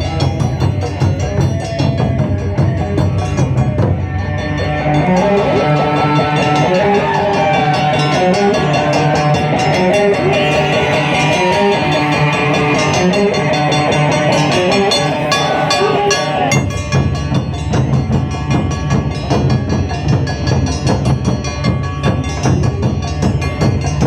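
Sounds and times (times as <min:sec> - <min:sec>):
plucked shamisen melody: 0:00.0 - 0:24.0
taiko drums: 0:00.0 - 0:24.0.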